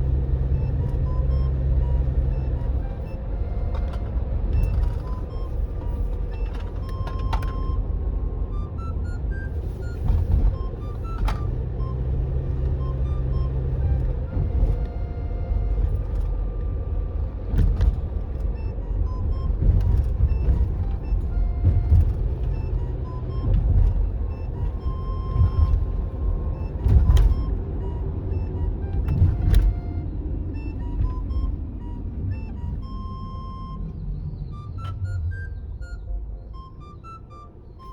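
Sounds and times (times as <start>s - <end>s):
car rumbling on road: 0.0s - 37.9s
light background music: 0.1s - 16.6s, 17.3s - 37.9s.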